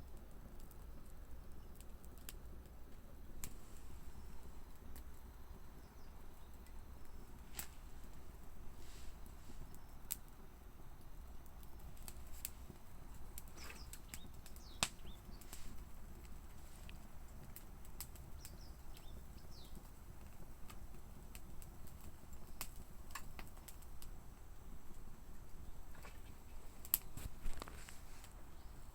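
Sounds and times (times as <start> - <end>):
wood fire crackling and popping: 0.0 - 28.9.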